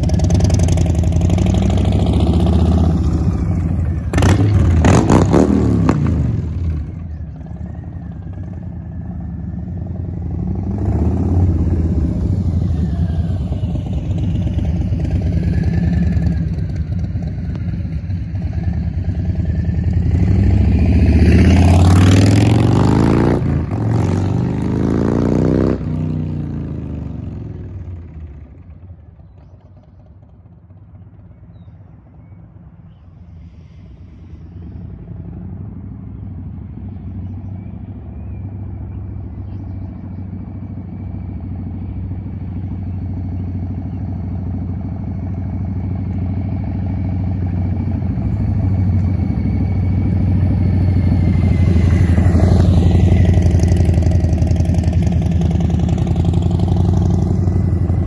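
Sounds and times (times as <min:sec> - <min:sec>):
motorcycle engine revving: 0:00.0 - 0:31.1, 0:34.5 - 0:58.0.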